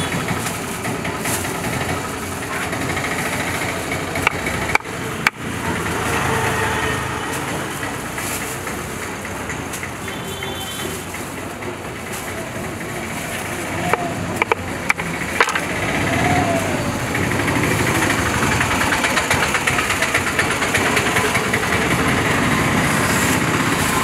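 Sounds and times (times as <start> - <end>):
traffic engines idling: 0.0 - 24.0.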